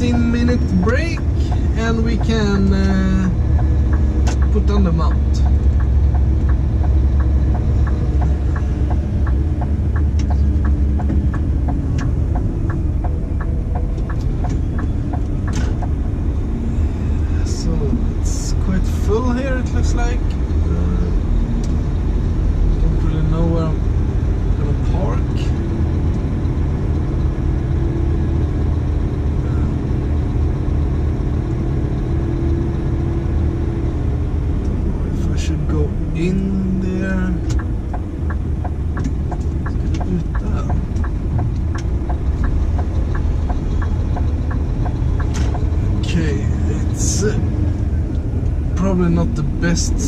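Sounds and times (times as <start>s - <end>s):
diesel engine droning: 0.0s - 50.0s
regular ticking: 0.0s - 50.0s.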